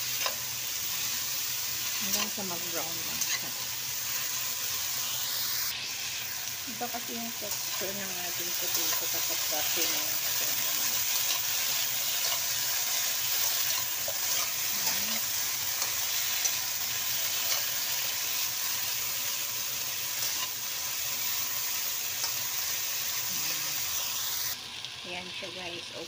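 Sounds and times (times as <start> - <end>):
potatoes sizzling in oil: 0.0 - 26.0.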